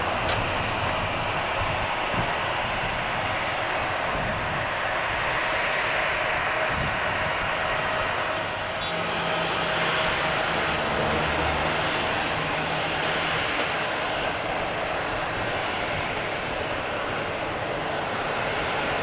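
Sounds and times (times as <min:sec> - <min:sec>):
jet engines rushing with whine: 0:00.0 - 0:19.0.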